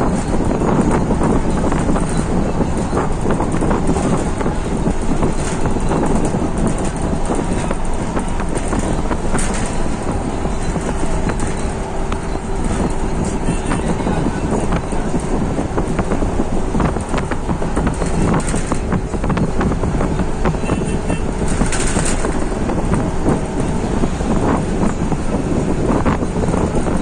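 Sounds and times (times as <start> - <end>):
tyre noise on road: 0.0 - 27.0
vehicle engine rumble: 0.0 - 27.0.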